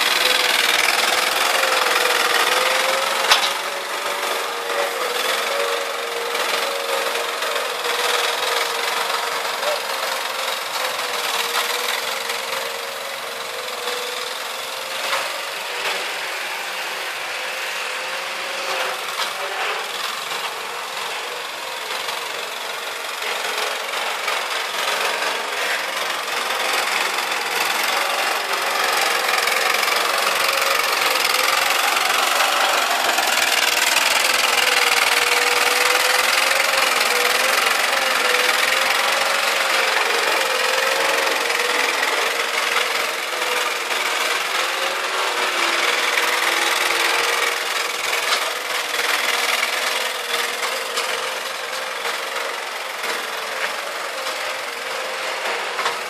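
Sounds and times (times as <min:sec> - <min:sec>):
skid steer engine running: 0:00.0 - 0:56.0.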